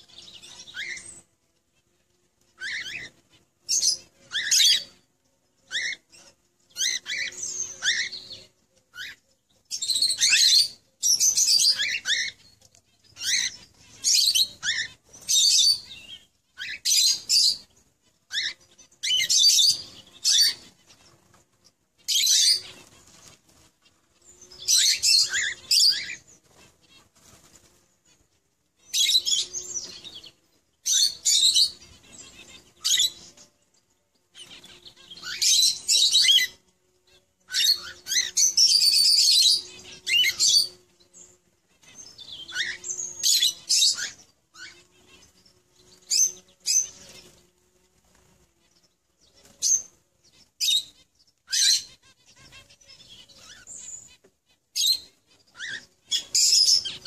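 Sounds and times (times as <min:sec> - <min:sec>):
birds chattering: 0:00.0 - 0:57.0
wings fluttering: 0:05.7 - 0:57.0.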